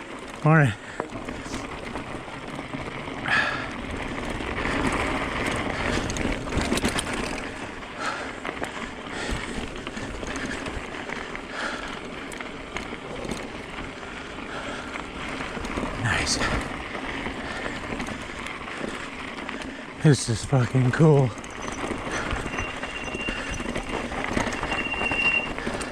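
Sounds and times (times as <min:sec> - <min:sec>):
bike clicks and clatters: 0:00.0 - 0:25.9
tyres rolling over gravel: 0:00.0 - 0:25.9.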